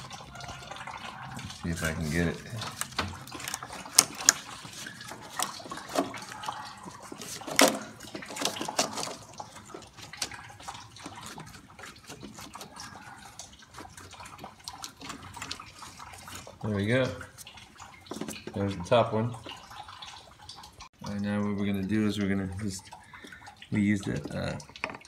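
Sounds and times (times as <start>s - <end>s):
rubber hose rubbing and scraping: 0.0s - 20.6s.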